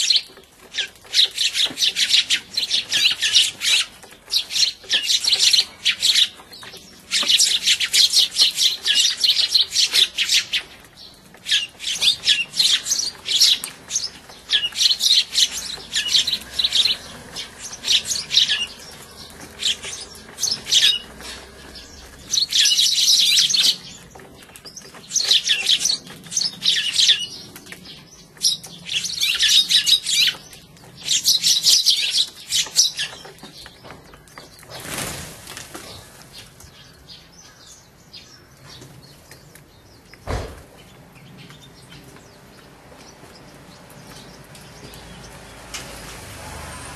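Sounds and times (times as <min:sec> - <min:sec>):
sparrows chirping: 0:00.0 - 0:46.9.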